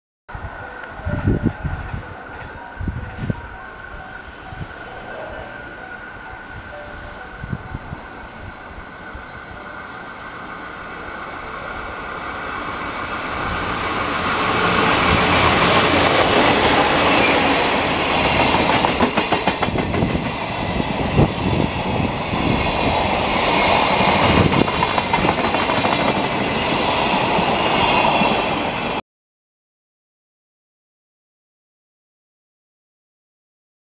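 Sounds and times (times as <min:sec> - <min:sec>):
diesel locomotive passing: 0:00.3 - 0:29.0.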